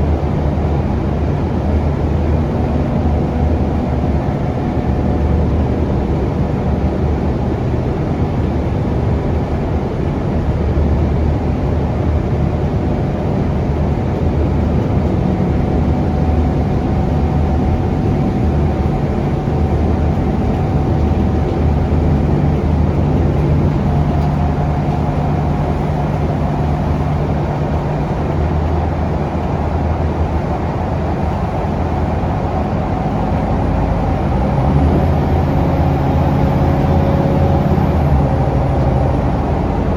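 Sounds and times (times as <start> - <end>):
bus engine running: 0.0 - 39.9
road and tyre noise: 0.0 - 39.9.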